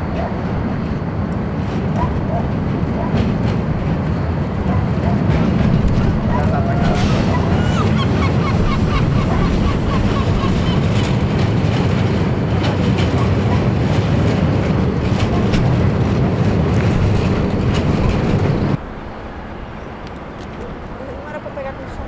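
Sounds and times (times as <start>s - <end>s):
wheels clattering on rails: 0.0s - 18.8s
train rumbling over steel bridge: 0.0s - 22.0s.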